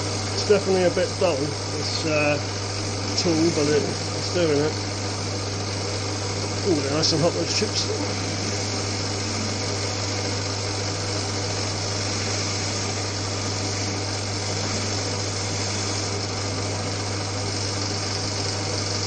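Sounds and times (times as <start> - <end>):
lathe motor humming: 0.0 - 19.0
lathe tool cutting hiss: 0.0 - 19.0.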